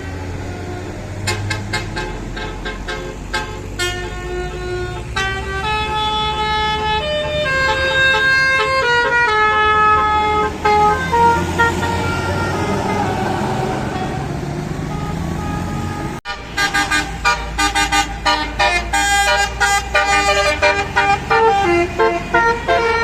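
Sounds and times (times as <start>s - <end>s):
bus engine running: 0.0s - 23.0s
bus multi-tone horn tune: 0.0s - 23.0s.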